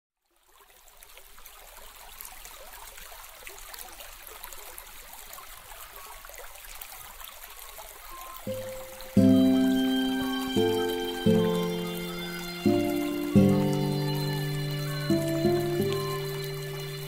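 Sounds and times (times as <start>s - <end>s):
running water splashing and trickling: 0.2s - 17.0s.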